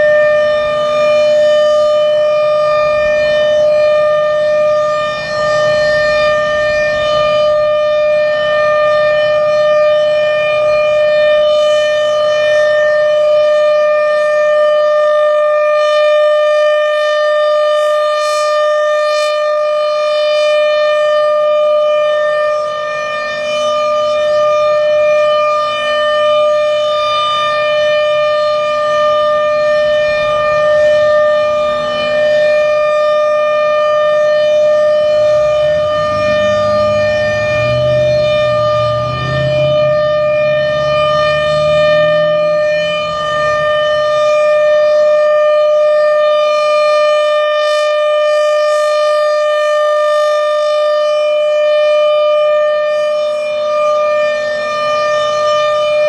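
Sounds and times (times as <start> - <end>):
warning siren wailing: 0.0 - 56.0.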